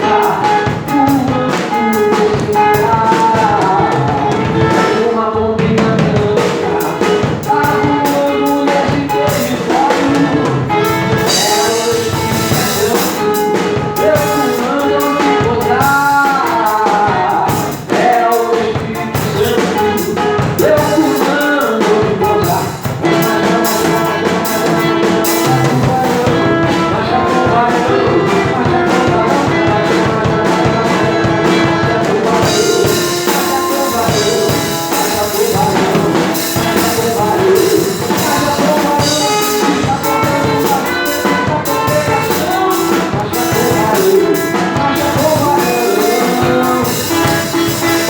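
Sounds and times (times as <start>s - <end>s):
drum kit beat: 0.0s - 48.0s
live band playing gospel: 0.0s - 48.0s.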